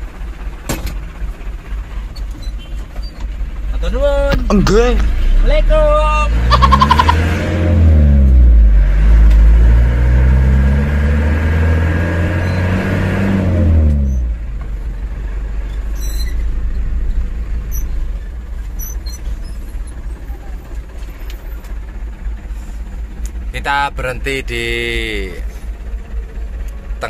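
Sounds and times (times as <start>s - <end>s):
truck engine revving: 1.7s - 27.0s.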